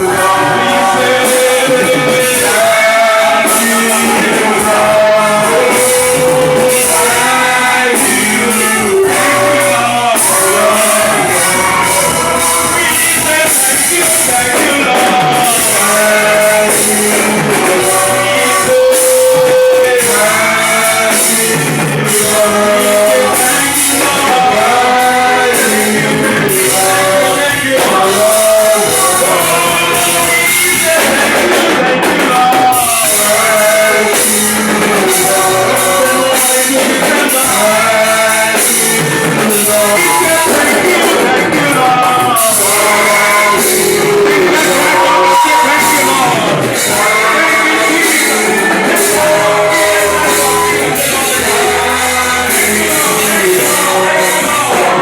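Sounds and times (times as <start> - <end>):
drums: 0.0 - 55.0
keyboard: 0.0 - 55.0
people singing: 0.0 - 55.0.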